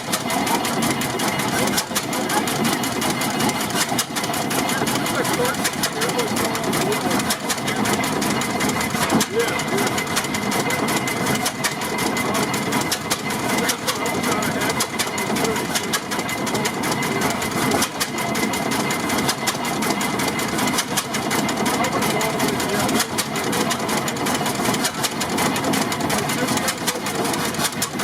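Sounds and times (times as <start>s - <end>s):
tractor engine clattering: 0.0s - 28.0s.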